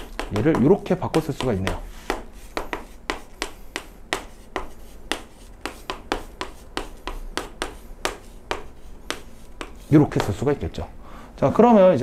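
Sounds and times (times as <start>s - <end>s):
chalk tapping on chalkboard: 0.0s - 10.6s.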